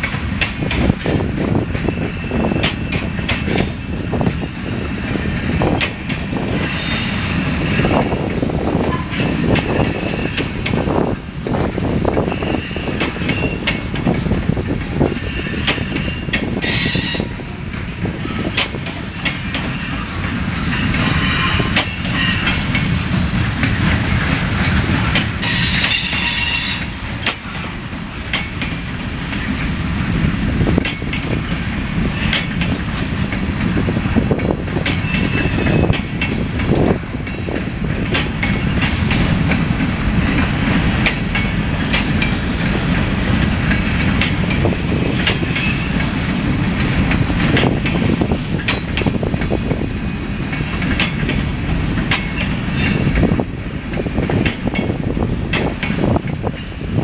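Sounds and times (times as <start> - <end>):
wheels clicking over rail joints: 0.0 - 6.8, 7.4 - 57.0
steel wheels rumbling on rail: 0.0 - 57.0.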